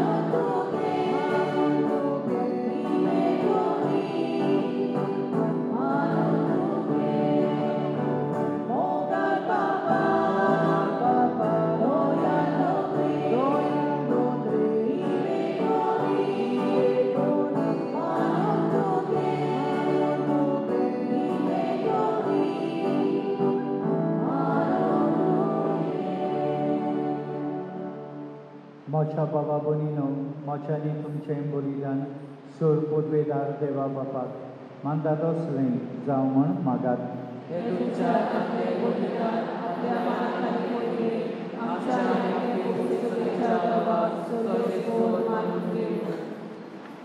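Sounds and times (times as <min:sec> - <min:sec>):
choir singing a hymn: 0:00.0 - 0:28.9, 0:37.4 - 0:47.0.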